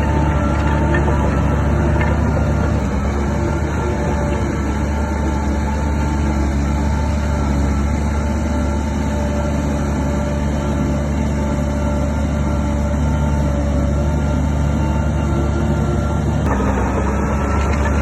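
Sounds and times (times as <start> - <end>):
bulldozer diesel engine droning: 0.0 - 18.0.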